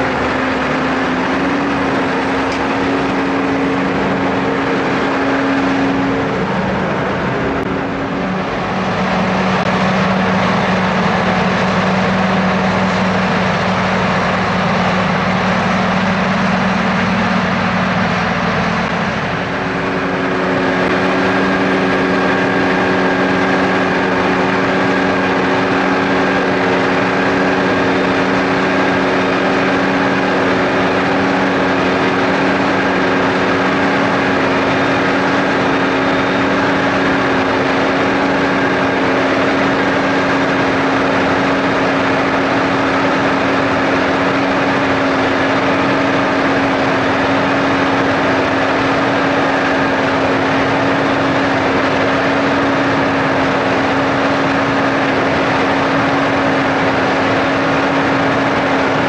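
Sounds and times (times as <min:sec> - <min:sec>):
tractor engine drone: 0:00.0 - 0:59.0.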